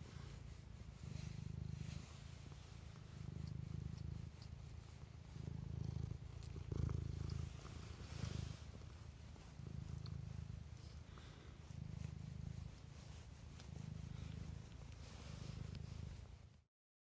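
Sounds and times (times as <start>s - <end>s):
cat purring: 0.0s - 16.7s.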